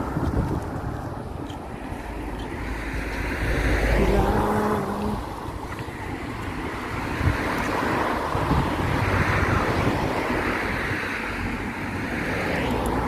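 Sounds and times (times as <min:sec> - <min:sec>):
rushing noise: 0:00.0 - 0:13.0
wind buffeting microphone: 0:00.0 - 0:13.0.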